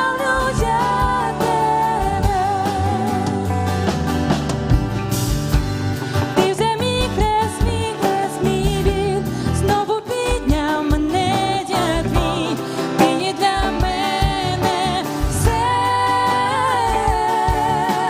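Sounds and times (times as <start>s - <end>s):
person singing with vibrato: 0.0s - 3.8s, 6.2s - 18.0s
band playing: 0.0s - 18.0s.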